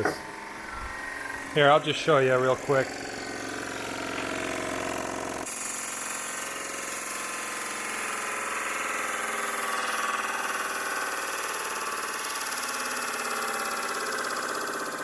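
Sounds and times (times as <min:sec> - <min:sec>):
disc sander running down: 0:00.0 - 0:15.0.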